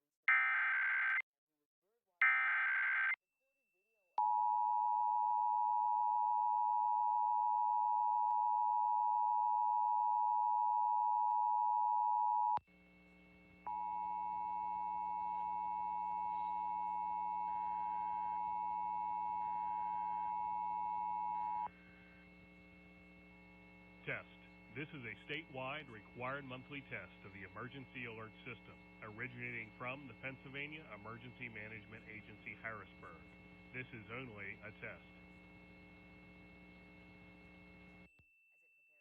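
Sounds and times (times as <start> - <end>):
two-tone alarm signal: 0.3 - 1.2, 2.2 - 3.2, 4.2 - 12.6, 13.6 - 39.0
electrical hum: 6.6 - 38.1.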